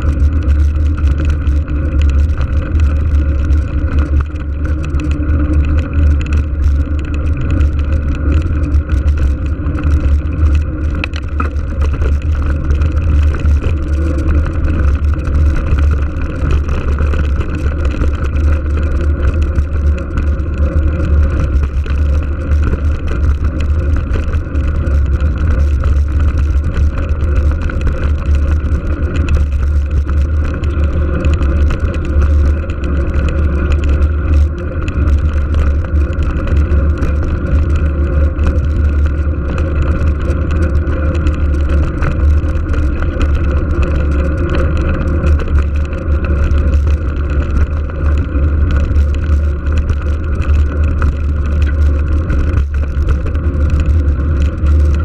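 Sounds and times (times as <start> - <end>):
tyres rolling on asphalt: 0.0 - 55.0
wind rumble on microphone: 0.0 - 55.0.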